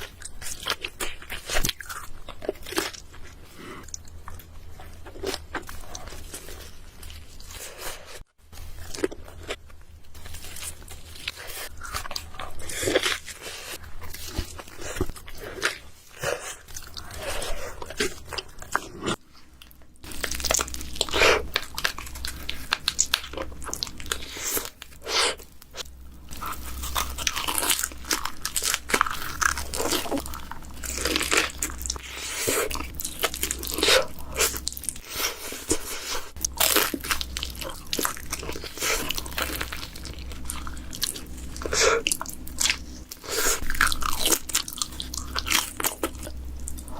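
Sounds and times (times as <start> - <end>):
crunching bites of pizza: 0.0 - 46.9
person chewing: 0.0 - 46.9.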